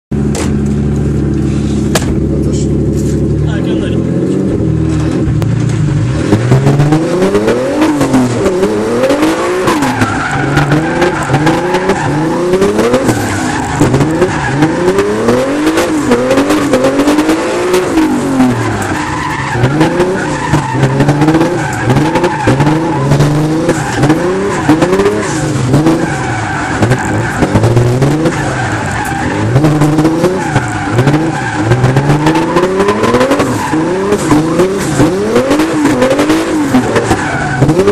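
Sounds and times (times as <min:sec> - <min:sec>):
car engine revving: 0:00.1 - 0:37.9
tyres skidding: 0:00.2 - 0:37.9.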